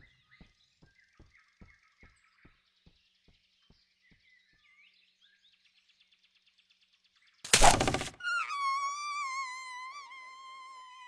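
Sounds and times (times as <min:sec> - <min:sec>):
soft bird chirps: 0:00.0 - 0:11.0.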